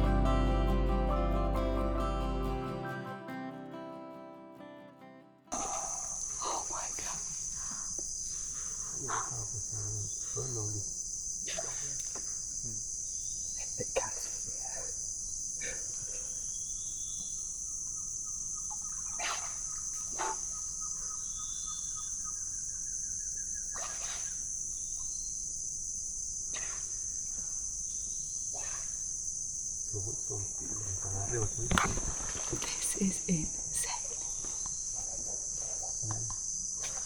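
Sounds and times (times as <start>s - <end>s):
insects chorus: 5.5s - 37.0s.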